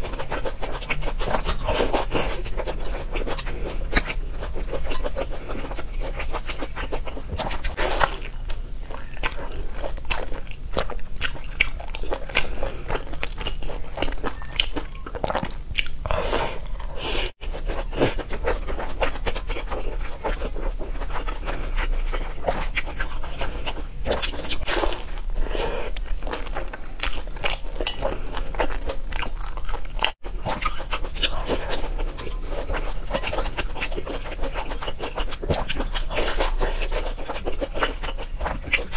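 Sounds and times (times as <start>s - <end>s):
crunchy chewing of buns: 0.0s - 38.9s.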